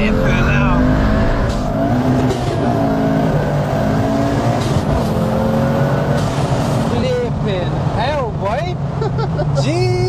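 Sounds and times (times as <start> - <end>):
car engine accelerating hard: 0.0 - 9.0.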